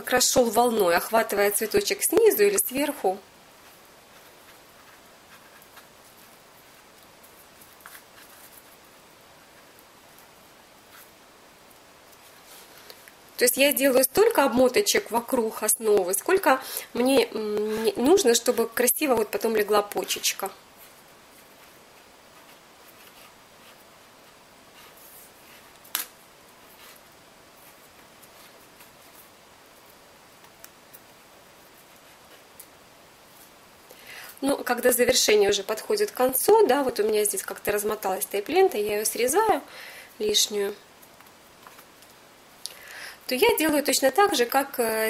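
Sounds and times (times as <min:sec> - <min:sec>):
steady low hiss: 0:00.0 - 0:45.0
faint rustling and ticks: 0:01.0 - 0:13.4, 0:15.7 - 0:35.2, 0:35.8 - 0:43.5.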